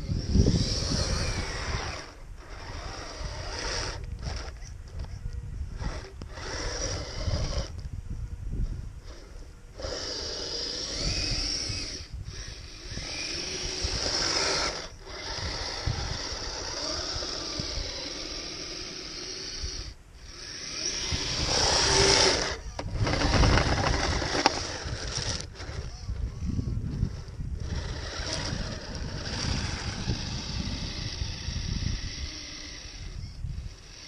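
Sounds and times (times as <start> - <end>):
electric motor whining: 0.0 - 34.0
wind rumbling on microphone: 0.0 - 34.0.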